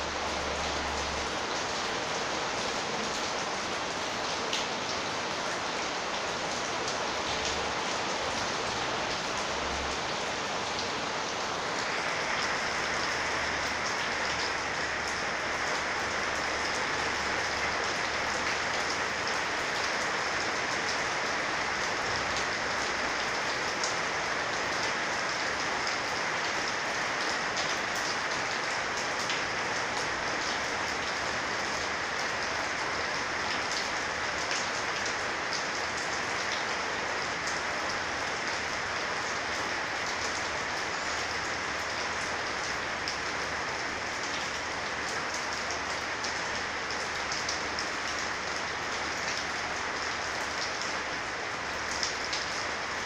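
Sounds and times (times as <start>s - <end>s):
heavy rain on metal roof: 0.0s - 53.0s.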